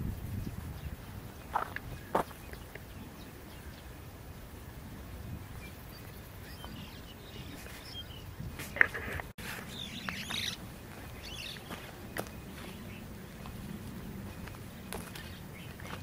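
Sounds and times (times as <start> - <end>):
birds chirping faintly: 0.0 - 16.0
low outdoor rumble: 0.0 - 16.0.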